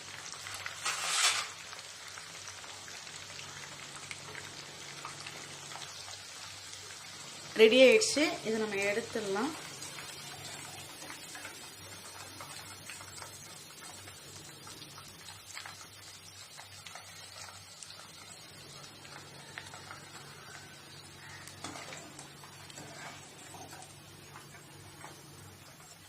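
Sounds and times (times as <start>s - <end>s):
oil crackling while deep-frying: 0.0s - 26.0s.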